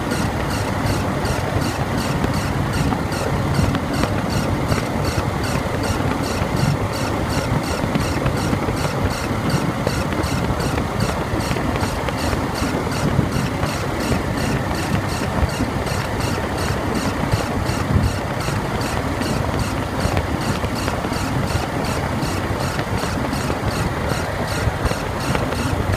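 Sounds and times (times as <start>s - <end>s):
idler pulley squeaking: 0.0s - 25.9s.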